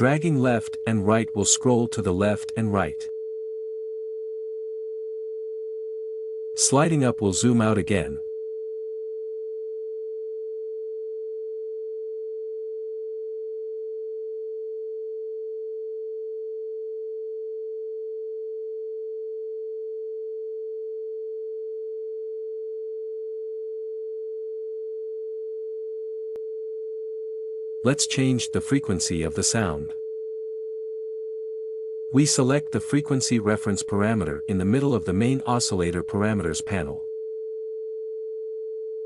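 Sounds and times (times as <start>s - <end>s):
steady sine wave tone: 0.0s - 39.0s.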